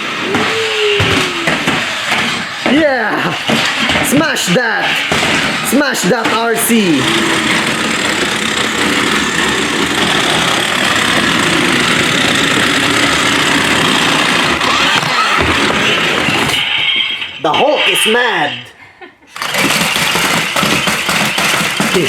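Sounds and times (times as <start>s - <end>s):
toy car motors whirring: 0.0s - 18.5s, 19.3s - 22.0s.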